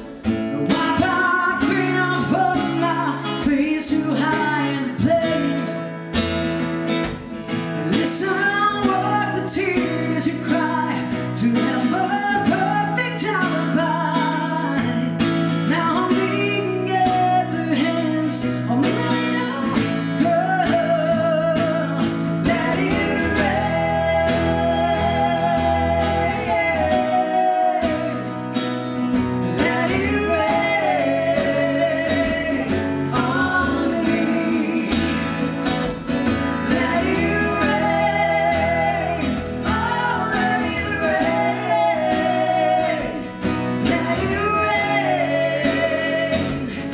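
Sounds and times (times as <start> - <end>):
acoustic guitars: 0.0 - 46.9
woman singing: 0.1 - 5.9, 7.8 - 46.9.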